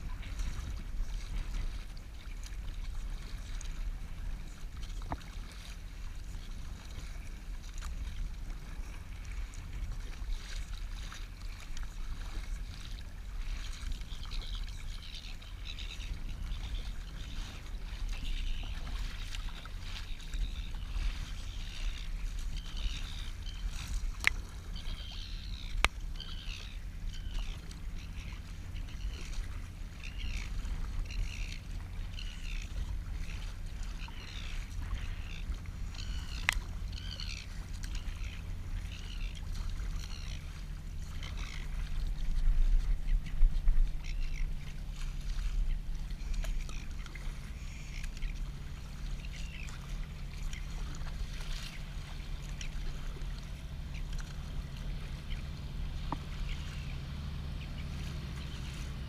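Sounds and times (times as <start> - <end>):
low steady rumble: 0.0 - 59.0
water splashing against kayak: 0.0 - 59.0.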